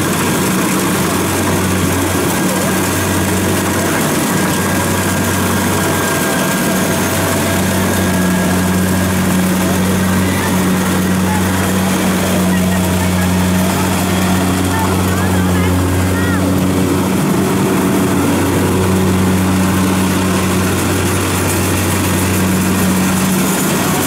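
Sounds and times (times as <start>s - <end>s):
diesel engine running: 0.0s - 24.0s
harvesting machinery whirring: 0.0s - 24.0s.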